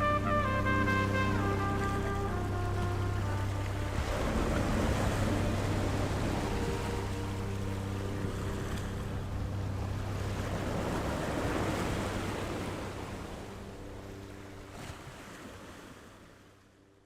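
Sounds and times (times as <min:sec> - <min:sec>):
low engine hum: 0:00.0 - 0:15.7
sea waves washing ashore: 0:00.0 - 0:16.9.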